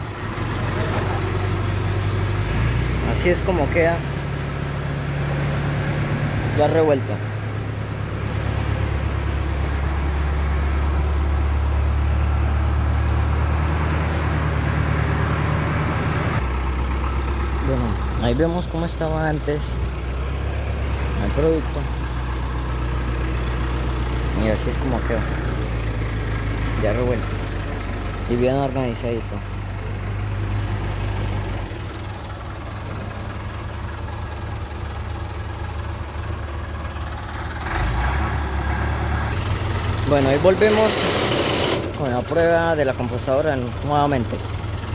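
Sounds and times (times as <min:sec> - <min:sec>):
compost turner mechanical rumble: 0:00.0 - 0:38.6, 0:39.2 - 0:44.9
tractor engine drone: 0:00.0 - 0:44.9.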